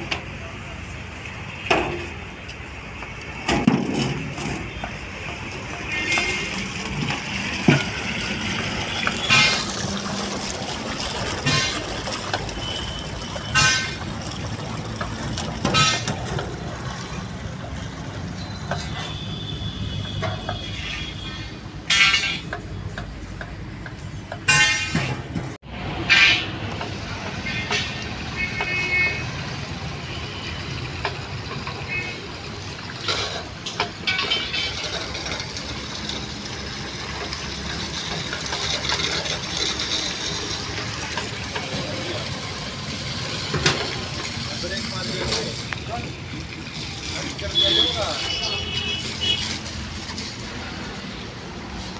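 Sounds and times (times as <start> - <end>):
water rushing from hose: 0.0 - 23.3, 25.8 - 51.9.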